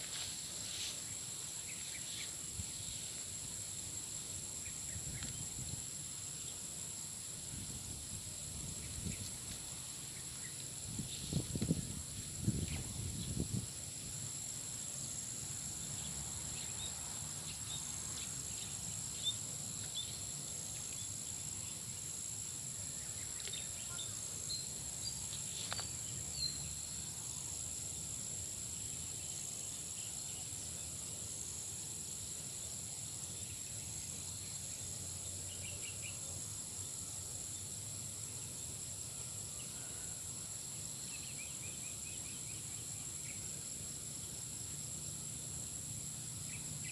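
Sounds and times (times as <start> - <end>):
insect chorus: 0.0 - 46.9.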